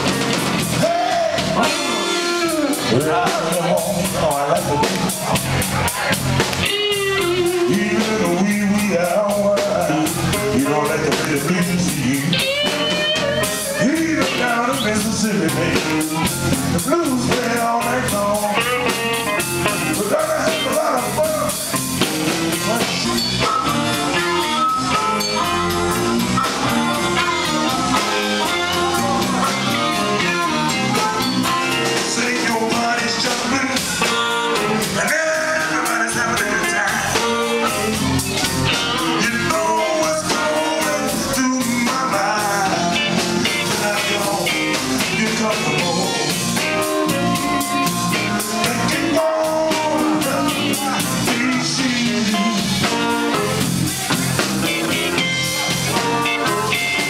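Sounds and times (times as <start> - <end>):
electric blues band playing: 0.0 - 57.0.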